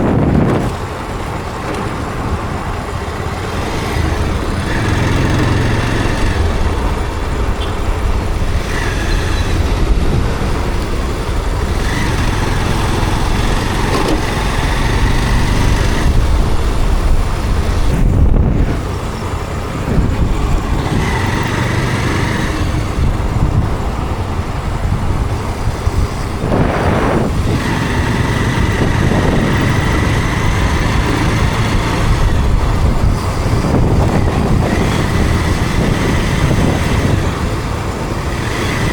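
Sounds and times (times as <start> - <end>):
motorcycle engine: 0.0 - 38.9
surrounding traffic: 0.0 - 38.9.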